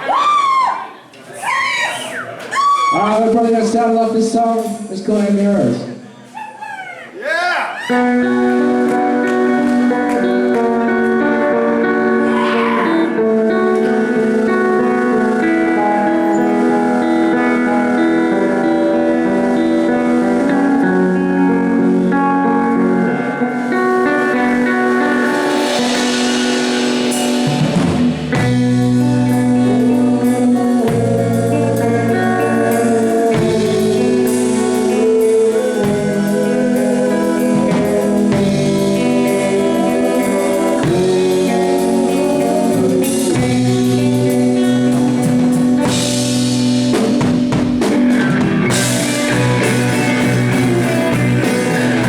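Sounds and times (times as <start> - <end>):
guitar: 0.0 - 52.0
drum kit: 7.9 - 52.0
person singing: 7.9 - 52.0
bass line: 8.0 - 52.0.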